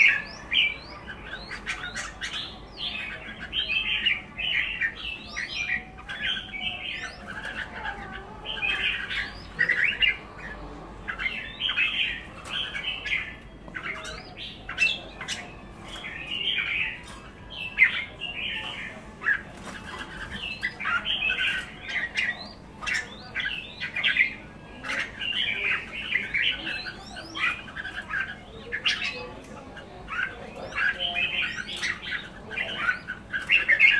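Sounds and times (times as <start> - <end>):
birds chattering: 0.0 - 33.9.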